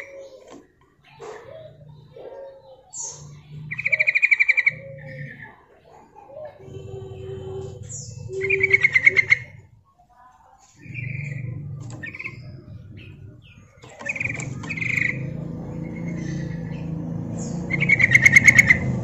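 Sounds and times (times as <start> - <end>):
bulbul calling: 0.0 - 10.1, 10.8 - 19.0.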